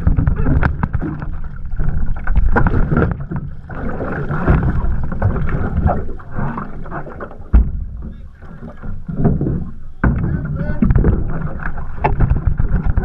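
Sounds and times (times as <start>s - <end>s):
sea water splashing against hull: 0.0s - 13.0s.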